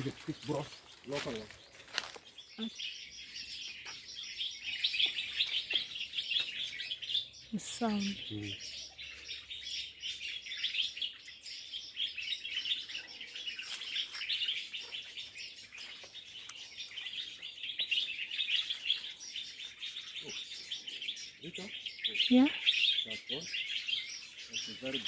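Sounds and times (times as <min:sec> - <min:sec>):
small birds chirping and twittering: 0:00.0 - 0:25.0.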